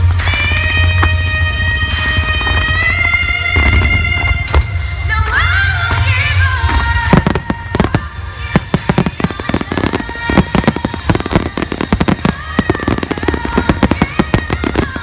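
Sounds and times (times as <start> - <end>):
fireworks crackling and banging: 0.0 - 15.0
music: 0.0 - 15.0.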